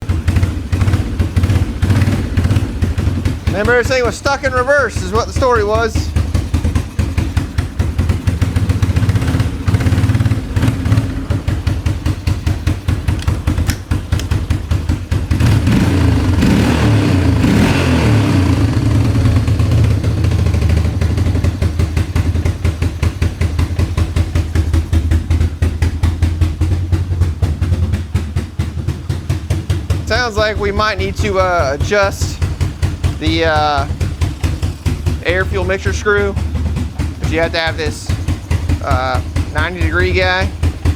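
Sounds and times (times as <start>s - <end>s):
small engine running and revving: 0.0s - 4.0s, 5.4s - 27.9s, 31.9s - 40.9s.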